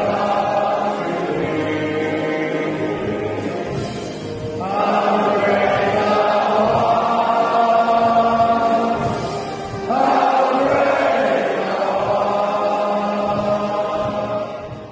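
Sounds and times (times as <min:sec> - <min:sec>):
boys choir singing: 0:00.0 - 0:14.9.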